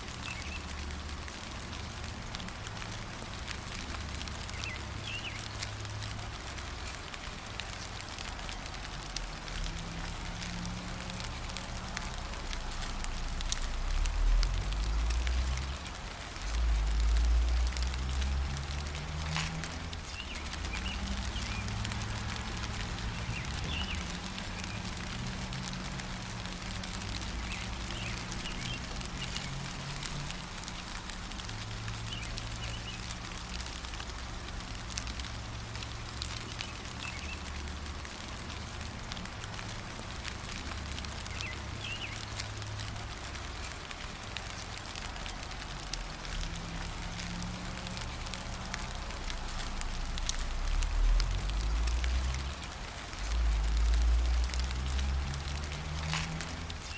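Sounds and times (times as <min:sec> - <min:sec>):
gentle rain pattering: 0:00.0 - 0:56.9.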